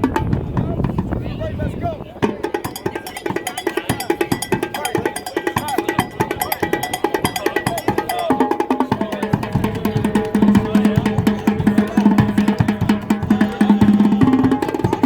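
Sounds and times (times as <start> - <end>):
drums in fast rhythm: 0.0 - 1.6, 2.2 - 15.0.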